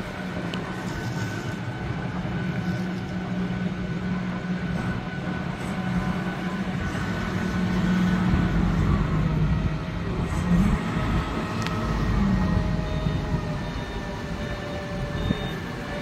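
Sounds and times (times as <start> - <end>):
diesel forklift engine running: 0.0 - 16.0.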